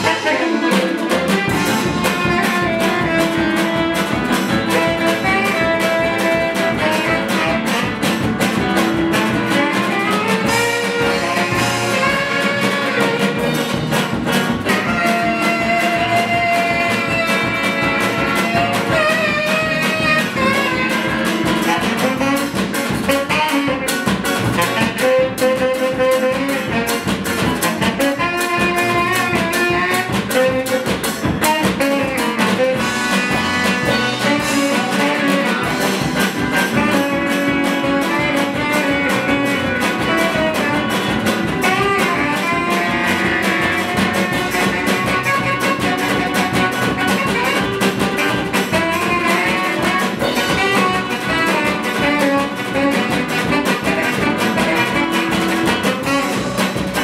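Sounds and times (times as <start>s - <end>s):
double bass: 0.0s - 57.0s
guitar: 0.0s - 57.0s
hand drums: 0.0s - 57.0s
tenor saxophone melody: 0.0s - 57.0s.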